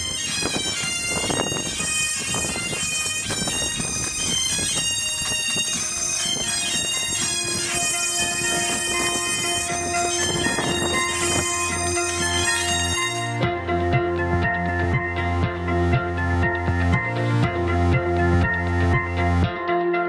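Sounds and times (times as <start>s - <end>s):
bagpipes playing a marching tune: 0.0s - 19.2s
bagpipe drone: 0.0s - 20.0s.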